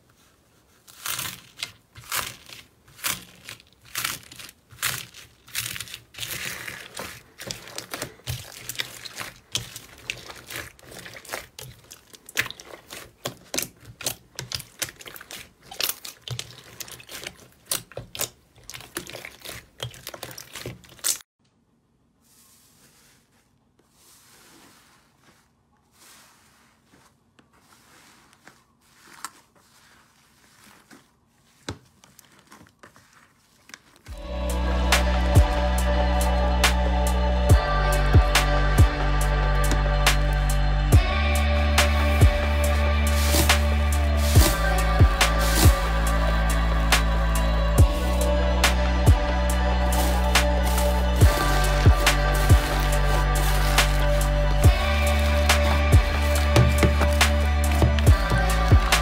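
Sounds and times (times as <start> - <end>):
soft slime squishing: 0.0 - 21.3, 22.2 - 35.6, 41.8 - 59.0
crunchy slime crackling: 0.7 - 21.3, 24.2 - 35.6, 39.7 - 59.0.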